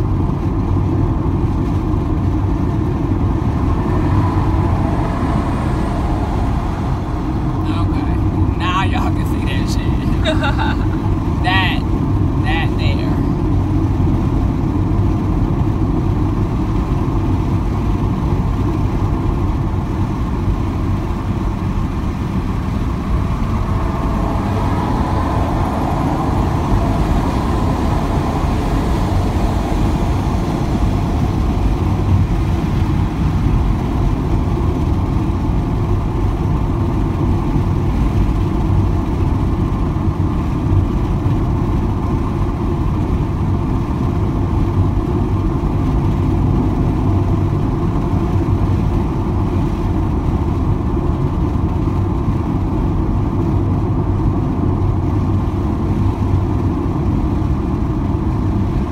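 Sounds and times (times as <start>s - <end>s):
car road and engine noise: 0.0s - 58.9s.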